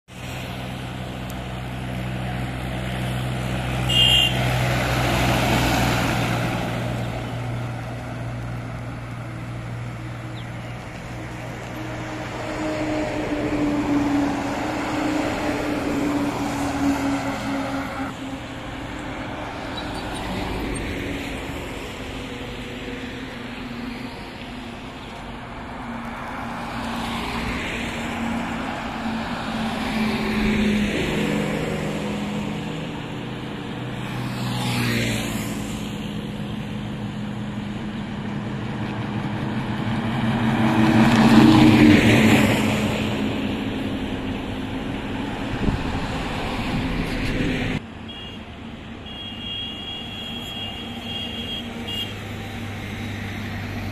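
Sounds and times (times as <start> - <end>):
diesel trucks passing: 0.1 - 53.9.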